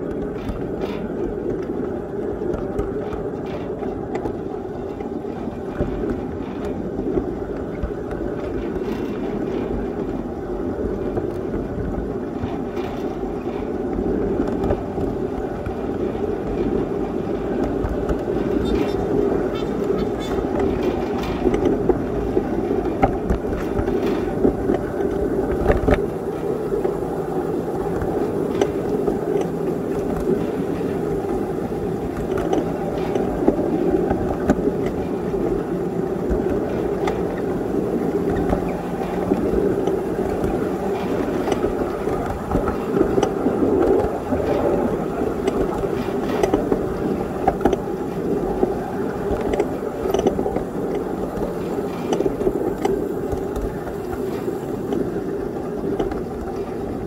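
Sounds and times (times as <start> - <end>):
miniature train rumbling on rails: 0.0 - 57.0.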